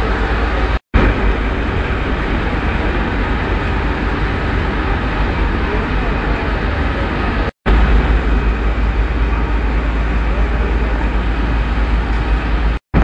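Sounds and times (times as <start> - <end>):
low rumble: 0.0 - 13.0
processing machinery running: 0.0 - 13.0.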